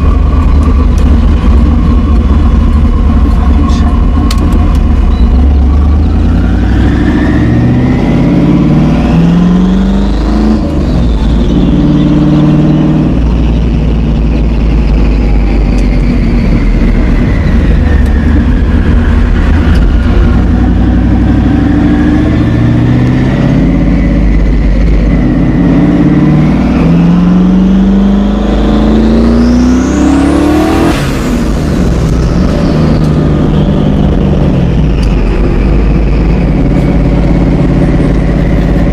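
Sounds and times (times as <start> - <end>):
car engine revving: 0.0 - 38.9
high turbo whine: 0.0 - 38.9.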